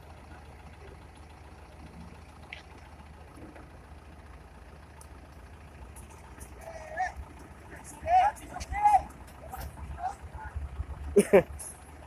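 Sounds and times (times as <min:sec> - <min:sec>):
dump truck engine idling: 0:00.0 - 0:12.0.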